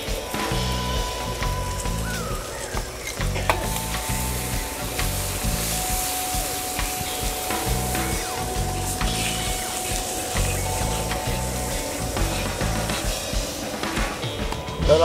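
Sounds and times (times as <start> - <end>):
vegetables sizzling in hot oil: 0.0 - 14.5
background music with steady beat: 0.0 - 15.0.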